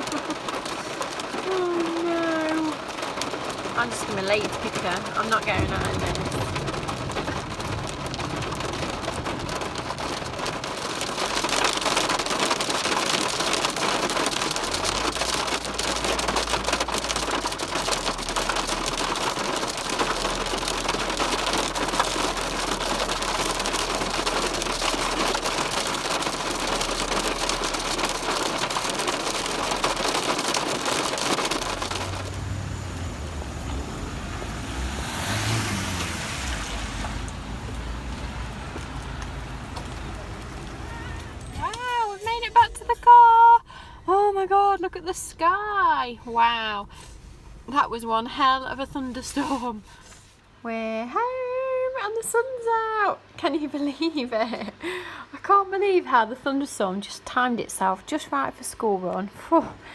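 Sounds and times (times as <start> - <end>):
heavy rain on car roof: 0.0 - 54.9.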